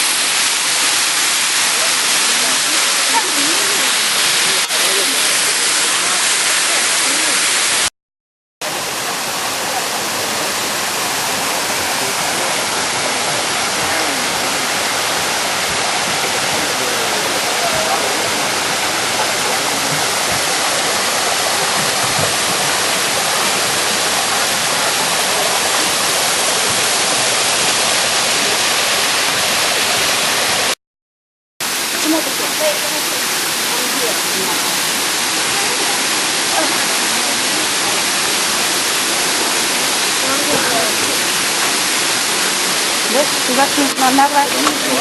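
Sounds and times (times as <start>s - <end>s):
waterfall rushing: 0.0s - 7.9s, 8.6s - 30.8s, 31.6s - 45.0s.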